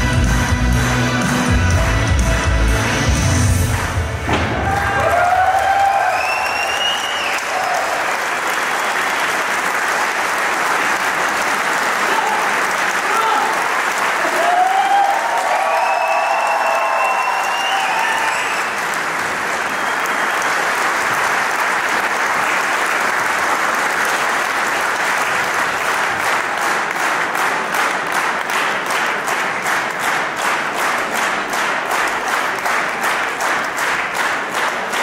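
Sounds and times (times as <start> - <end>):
rhythmic clapping in unison: 0.0 - 35.0
audience applauding: 3.2 - 35.0.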